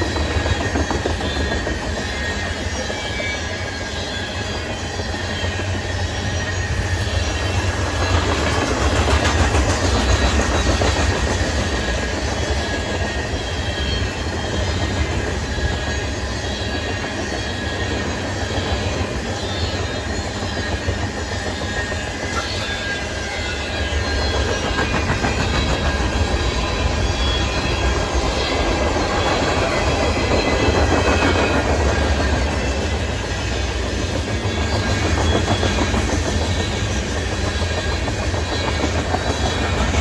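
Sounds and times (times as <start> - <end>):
freight train rumbling past: 0.0 - 40.0
rail-joint clicks: 0.0 - 40.0.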